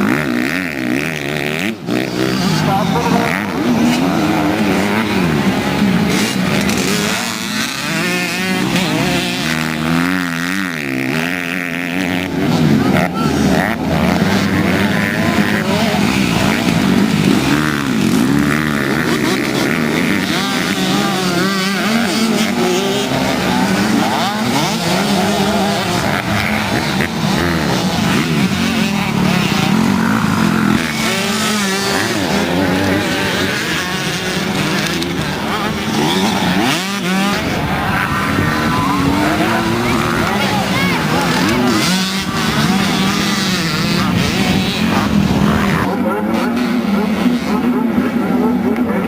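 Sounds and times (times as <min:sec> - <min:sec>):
motorcycle engines revving: 0:00.0 - 0:49.0.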